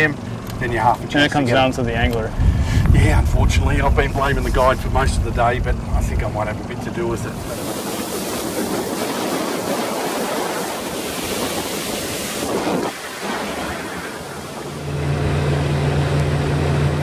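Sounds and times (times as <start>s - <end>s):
low boat engine drone: 0.0s - 17.0s
wind buffeting microphone: 1.8s - 15.7s
water rushing past hull: 2.3s - 17.0s.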